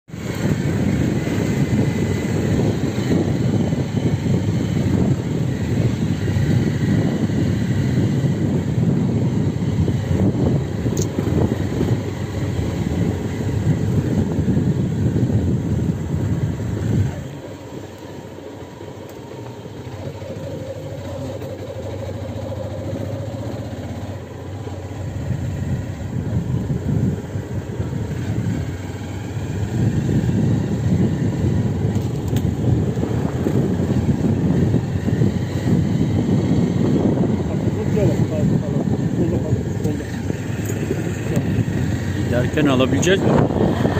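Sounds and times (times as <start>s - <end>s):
vehicle engine: 0.1s - 43.9s
wind rumble: 0.1s - 43.9s.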